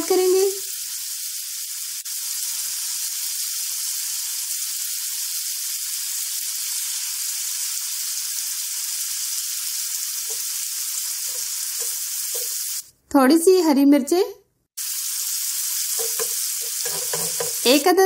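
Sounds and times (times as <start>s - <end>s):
food sizzling in hot oil: 0.0s - 12.9s, 14.8s - 18.0s.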